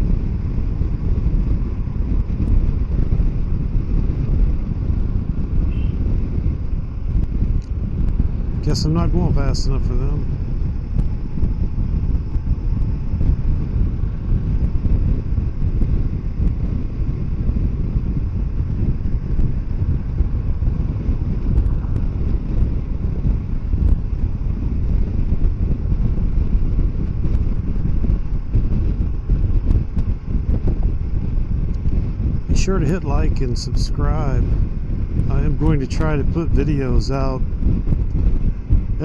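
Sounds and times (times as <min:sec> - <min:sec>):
motorcycle engine rumble: 0:00.0 - 0:39.0
wind buffeting microphone: 0:00.0 - 0:39.0.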